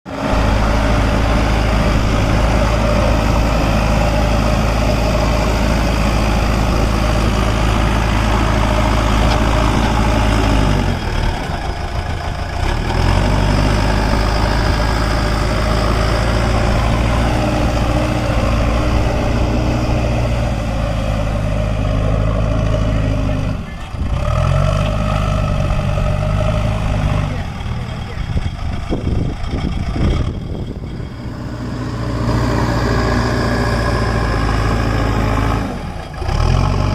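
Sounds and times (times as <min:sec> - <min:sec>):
heavy diesel engine running: 0:00.1 - 0:36.9.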